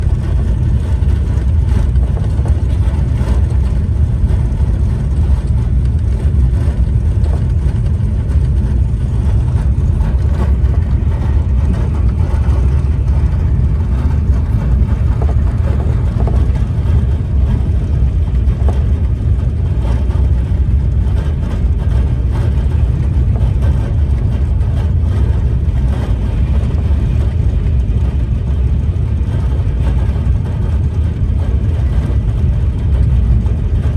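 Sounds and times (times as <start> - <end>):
high-speed train rumble: 0.0 - 33.9.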